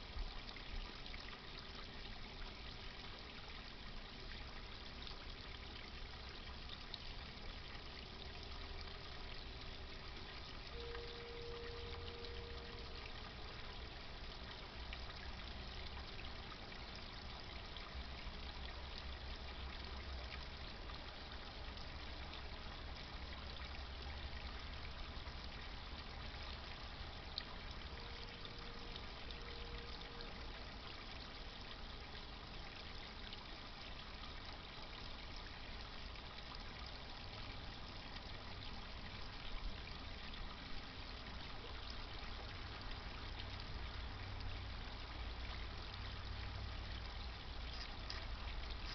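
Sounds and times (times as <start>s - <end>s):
water trickling and splashing: 0.0s - 48.9s.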